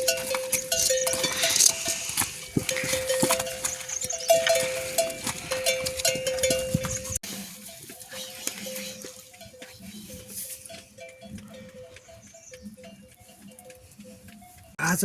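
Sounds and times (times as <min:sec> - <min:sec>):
goat and sheep bells ringing: 0:00.0 - 0:15.0.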